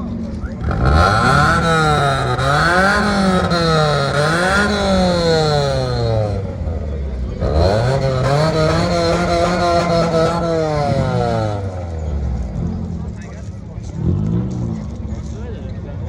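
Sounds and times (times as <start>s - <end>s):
vehicle engine revving: 0.0s - 15.5s.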